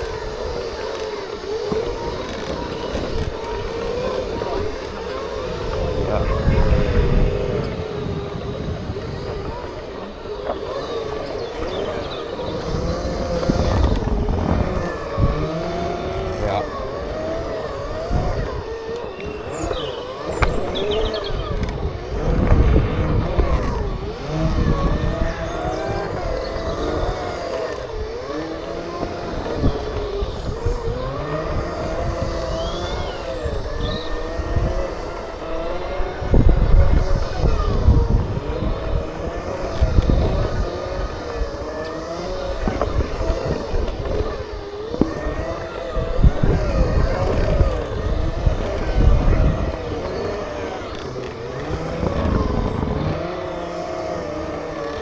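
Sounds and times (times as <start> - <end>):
electric motors whining: 0.0 - 55.0
wind rumble on microphone: 0.0 - 55.0.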